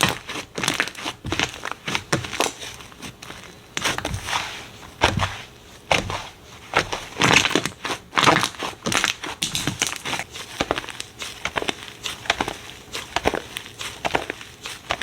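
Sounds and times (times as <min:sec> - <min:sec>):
slime squishing and crackling: 0:00.0 - 0:15.0.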